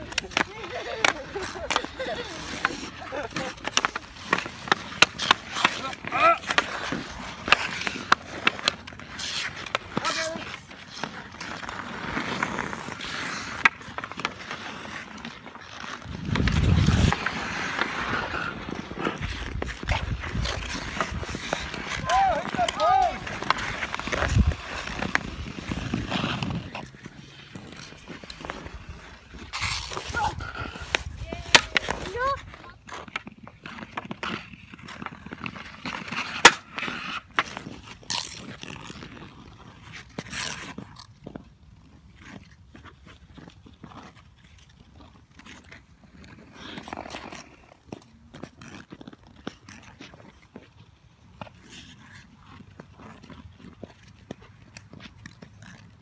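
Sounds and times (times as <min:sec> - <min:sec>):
hockey sticks striking puck: 0:00.0 - 0:56.0
ice skates scraping ice: 0:00.0 - 0:56.0.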